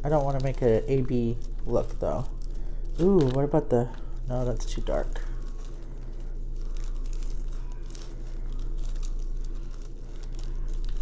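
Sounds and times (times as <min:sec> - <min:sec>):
low electrical hum: 0:00.0 - 0:11.0
plastic packets crinkling: 0:00.0 - 0:11.0.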